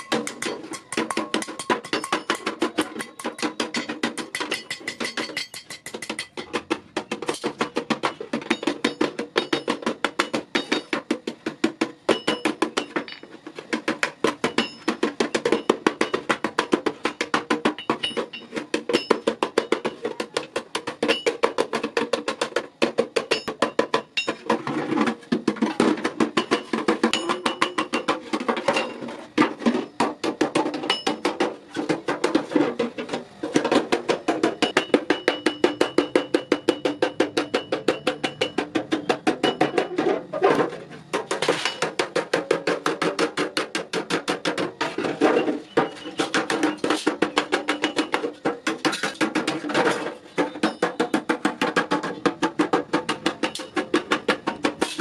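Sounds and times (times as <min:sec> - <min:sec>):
hammer tapping on sheet metal: 0:00.0 - 0:24.6, 0:25.2 - 0:55.0.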